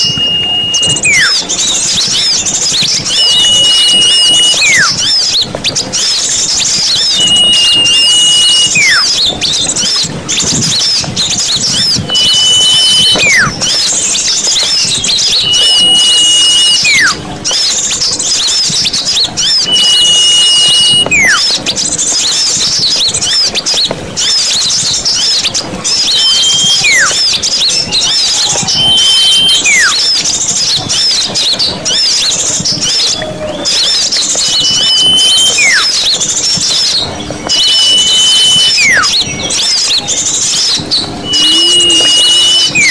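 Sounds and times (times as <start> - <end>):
quick falling whistle: 0.0 - 17.7, 18.4 - 21.7, 22.8 - 42.9
high whistle: 0.0 - 42.9
small birds chattering: 0.0 - 42.9.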